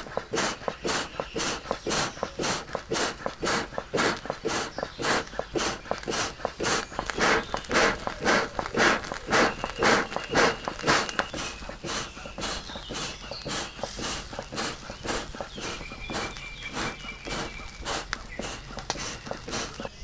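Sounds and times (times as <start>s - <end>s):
hand bellows puffing air: 0.0s - 20.0s.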